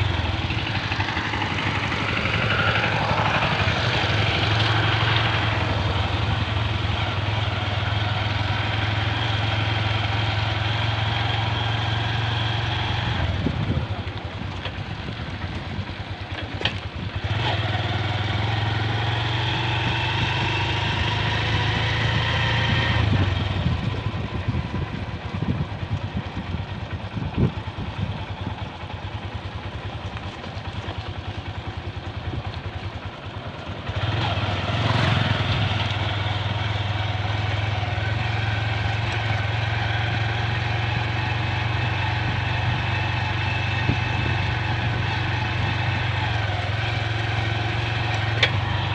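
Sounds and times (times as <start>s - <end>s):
motorcycle engine droning: 0.0s - 48.9s.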